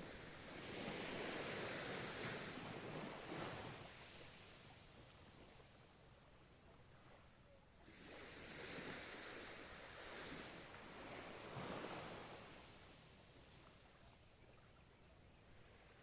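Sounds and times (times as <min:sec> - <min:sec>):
faint ocean waves: 0:00.0 - 0:16.0.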